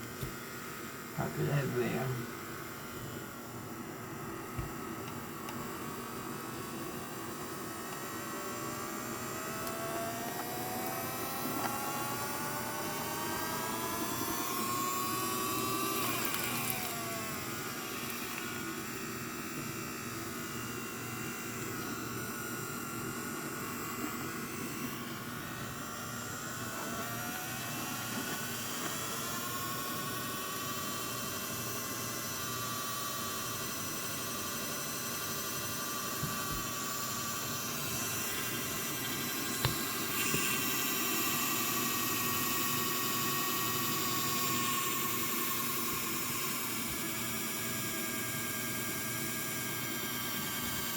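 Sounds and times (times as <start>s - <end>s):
washing machine motor whining: 0.0s - 50.9s.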